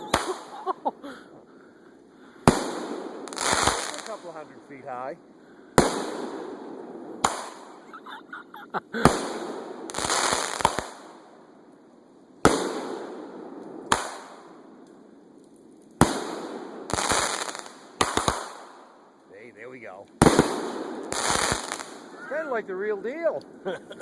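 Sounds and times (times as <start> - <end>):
fireworks bangs: 0.0 - 1.2, 2.3 - 11.3, 12.4 - 14.6, 16.0 - 23.9.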